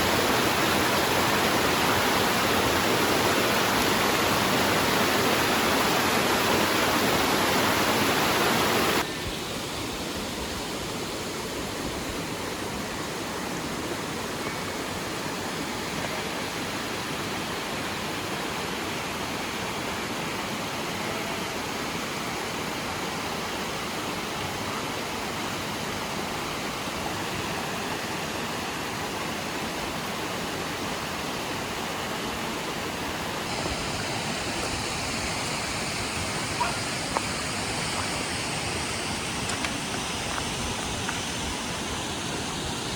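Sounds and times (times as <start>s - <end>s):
mountain water rushing: 0.0s - 42.9s.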